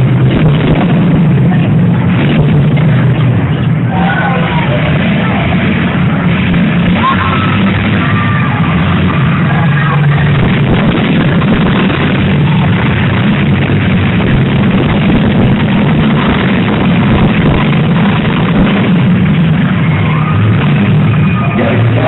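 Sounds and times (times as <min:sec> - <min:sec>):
unmuffled car engines running hard: 0:00.0 - 0:22.0.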